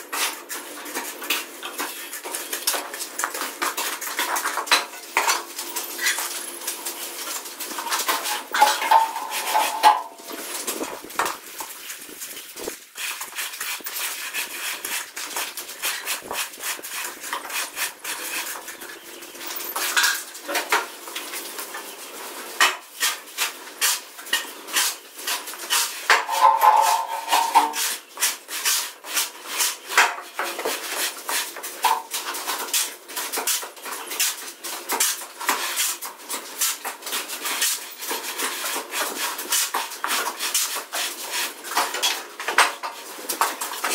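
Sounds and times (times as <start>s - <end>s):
shovel scraping mortar on concrete: 0.0s - 21.3s, 22.6s - 43.9s.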